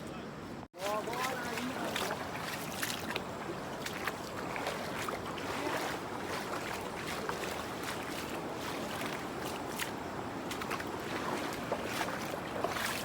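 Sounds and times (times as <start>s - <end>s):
river water rushing: 0.8s - 13.0s.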